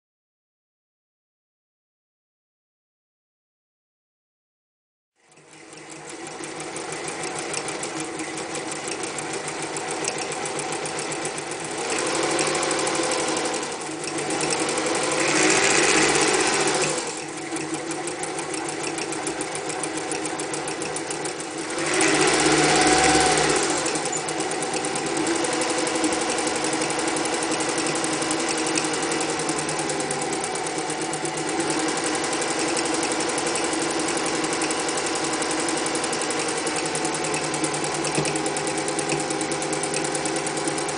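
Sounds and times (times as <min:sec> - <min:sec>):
sewing machine running: 0:05.2 - 0:40.9.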